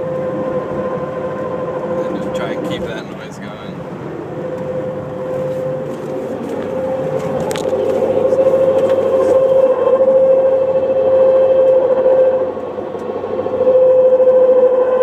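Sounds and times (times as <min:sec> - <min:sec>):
differential whining: 0:00.0 - 0:15.0
road noise: 0:00.0 - 0:15.0.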